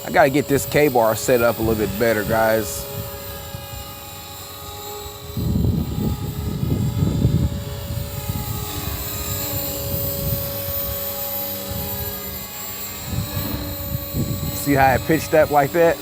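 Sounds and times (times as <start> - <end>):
model helicopter whine: 0.0 - 16.0
wind buffeting microphone: 0.0 - 16.0.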